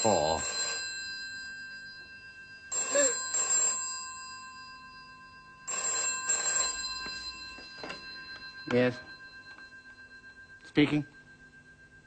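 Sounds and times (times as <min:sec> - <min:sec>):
telephone bell ringing: 0:00.0 - 0:12.0.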